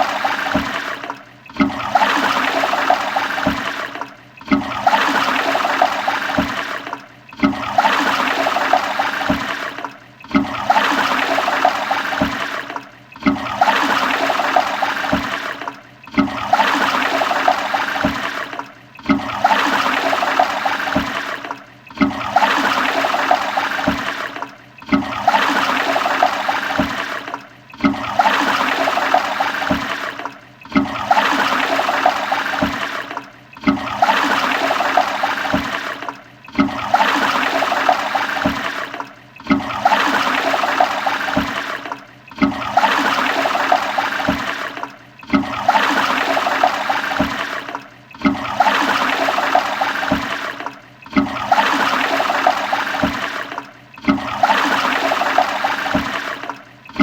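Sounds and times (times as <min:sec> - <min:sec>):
toilet flushing: 0:00.0 - 0:57.0.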